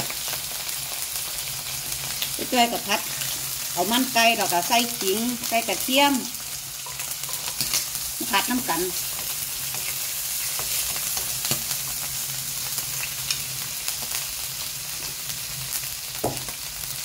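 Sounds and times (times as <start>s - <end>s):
chicken sizzling in frying pan: 0.0s - 17.0s.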